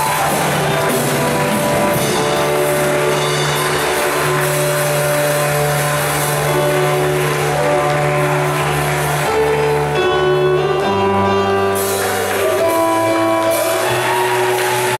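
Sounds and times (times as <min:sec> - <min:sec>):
held keyboard chords: 0:00.0 - 0:14.9
sustained bass notes: 0:00.0 - 0:14.9.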